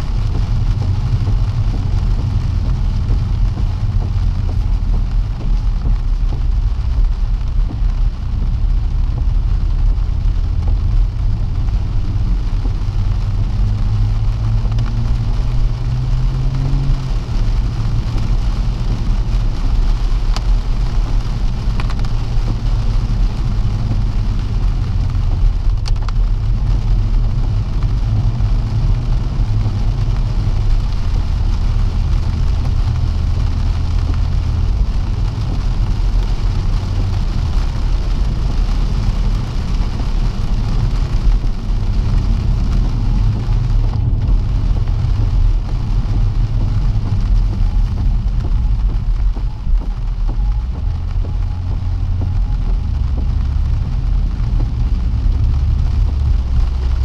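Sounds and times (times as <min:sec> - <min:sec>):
car engine droning: 0:00.0 - 0:57.0
rain on car: 0:00.0 - 0:57.0
tyres hissing on wet road: 0:00.0 - 0:57.0.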